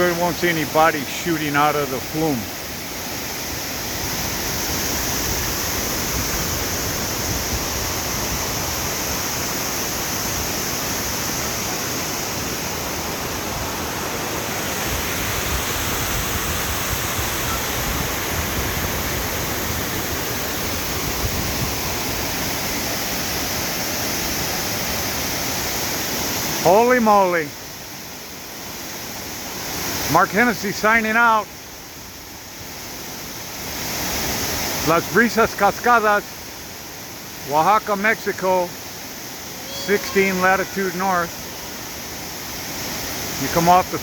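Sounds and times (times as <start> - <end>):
waterfall rushing: 0.0 - 31.9, 32.7 - 44.0.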